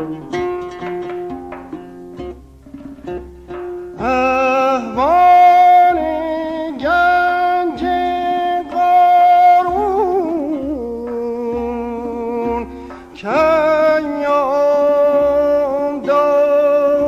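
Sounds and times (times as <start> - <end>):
man singing with vibrato: 0.0 - 0.6, 3.9 - 17.0.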